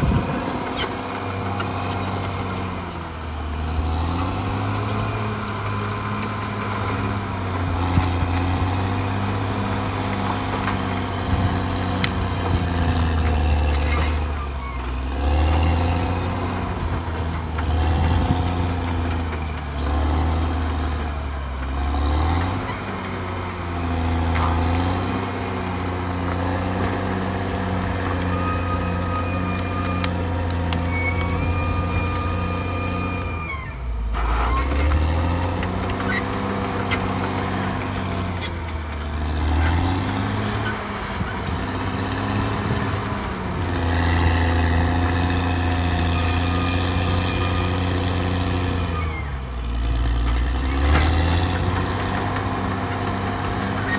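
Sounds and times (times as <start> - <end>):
bulldozer diesel engine working: 0.0 - 53.9
short squealing tones: 0.0 - 53.9.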